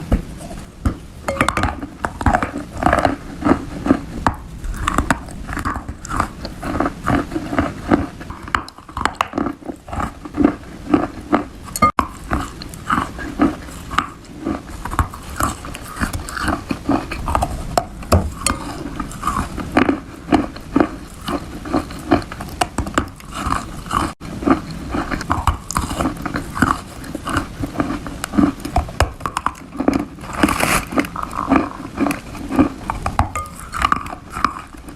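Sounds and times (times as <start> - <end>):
moist chewing crunches: 1.7 - 34.9.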